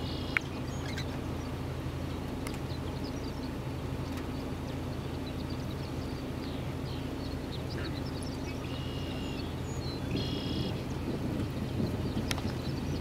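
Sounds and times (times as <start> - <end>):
birds chirping: 0.0 - 13.0
multi-toned bird calls: 0.0 - 13.0
steady low hum: 0.0 - 13.0.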